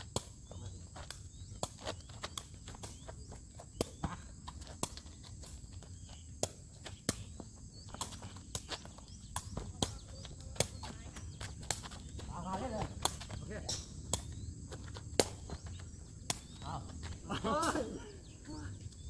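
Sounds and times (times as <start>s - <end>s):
shoes stepping on asphalt: 0.4s - 17.5s.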